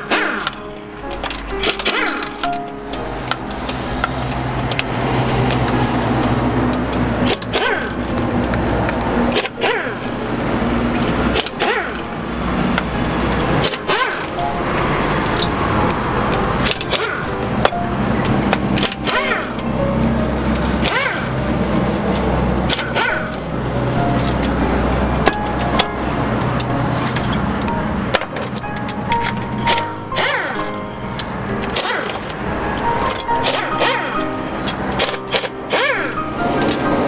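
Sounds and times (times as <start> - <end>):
sustained low chords: 0.0 - 9.4, 10.1 - 37.0.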